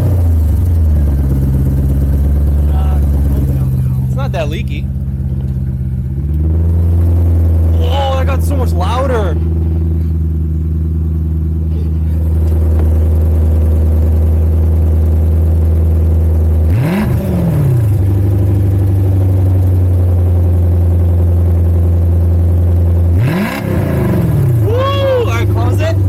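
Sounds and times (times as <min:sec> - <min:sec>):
car engine idling loudly: 0:00.0 - 0:26.0
engine revving: 0:00.0 - 0:26.0.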